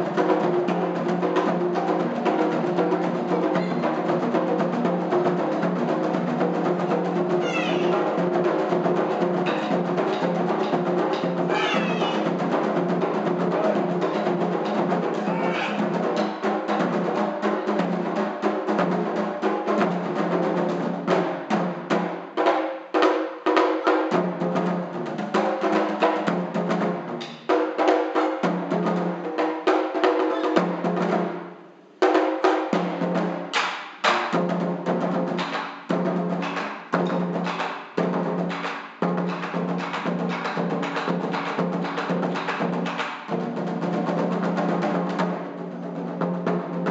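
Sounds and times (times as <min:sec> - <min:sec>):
taiko drums: 0:00.0 - 0:31.4, 0:32.0 - 0:46.9.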